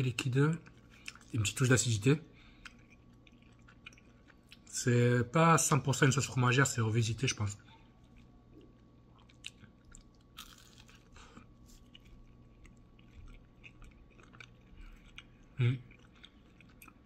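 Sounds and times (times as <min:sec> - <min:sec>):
chewing crunchy food: 0:00.0 - 0:04.8, 0:07.7 - 0:17.0.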